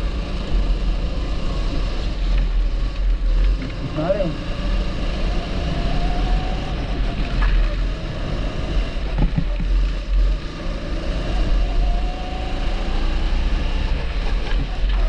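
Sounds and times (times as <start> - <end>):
kart engine running: 0.0 - 15.0.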